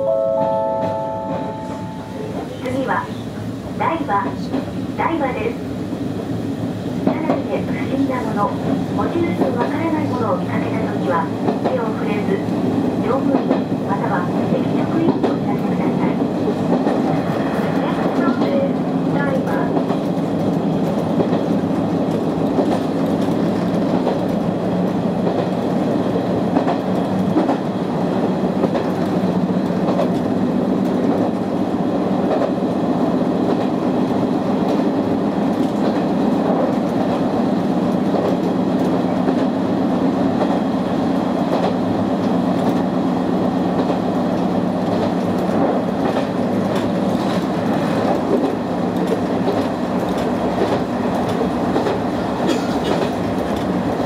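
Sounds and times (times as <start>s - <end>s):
train wheels rumbling on rail: 0.1s - 54.0s
rail joint clicks: 4.2s - 4.8s, 6.6s - 54.0s.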